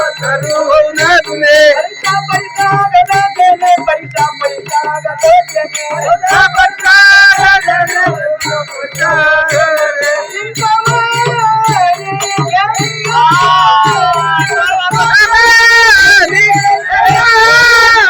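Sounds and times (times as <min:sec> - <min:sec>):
elderly woman singing: 0:00.0 - 0:18.0
jingling percussion: 0:00.0 - 0:18.0
steady drum beat: 0:00.0 - 0:18.0.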